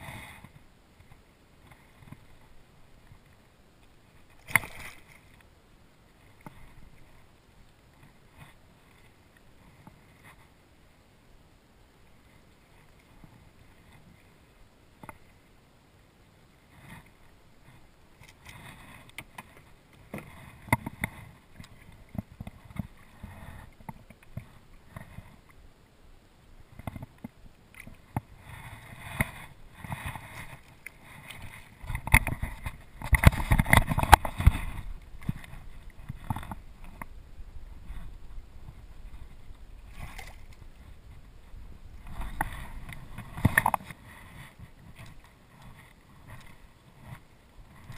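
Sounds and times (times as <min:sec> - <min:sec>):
water sloshing against hull: 0:00.0 - 0:10.9, 0:11.9 - 0:15.6, 0:16.5 - 0:25.8, 0:26.6 - 0:47.9.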